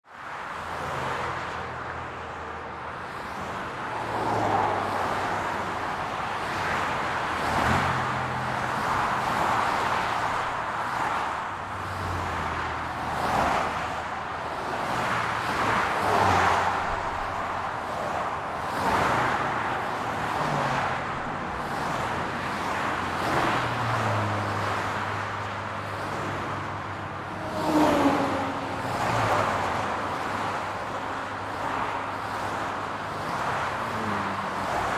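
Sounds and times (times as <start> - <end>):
vehicles passing on highway: 0.0 - 34.9.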